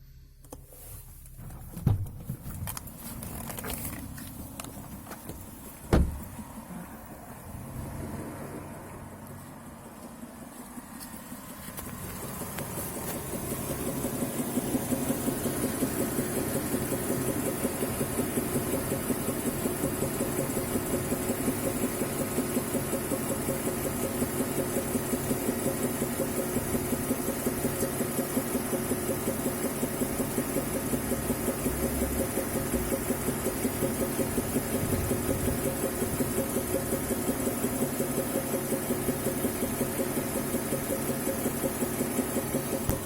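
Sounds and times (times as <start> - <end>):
car engine idling with knocking: 1.2 - 7.7, 8.8 - 43.0.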